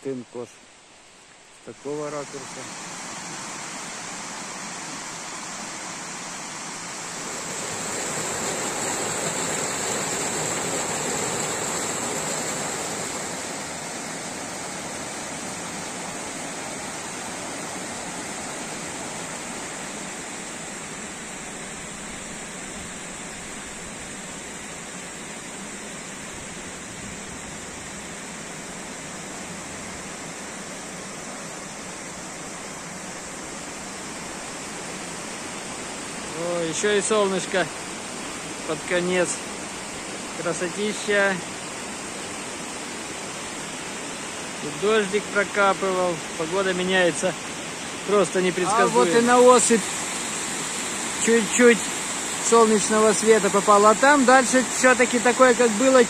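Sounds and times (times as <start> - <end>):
rushing mountain water: 0.0 - 56.0.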